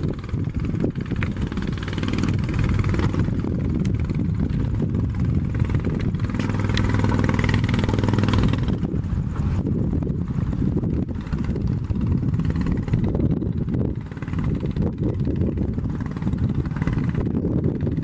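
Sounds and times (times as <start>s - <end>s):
boat engine running: 0.0s - 18.0s
wind and water rushing: 0.0s - 18.0s.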